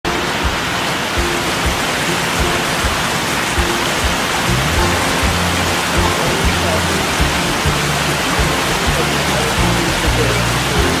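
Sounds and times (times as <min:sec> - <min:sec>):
quiet background music: 0:00.1 - 0:11.0
water rushing down rock cascade: 0:00.1 - 0:11.0.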